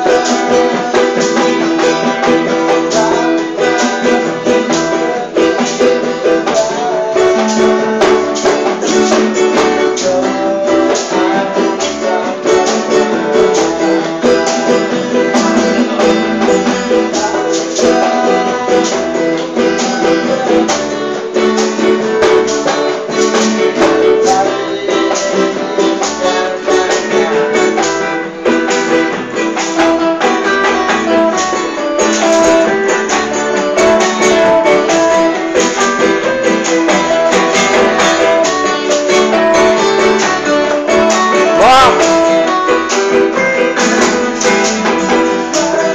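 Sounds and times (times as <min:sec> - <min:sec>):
ukulele and guitar strumming: 0:00.0 - 0:45.9.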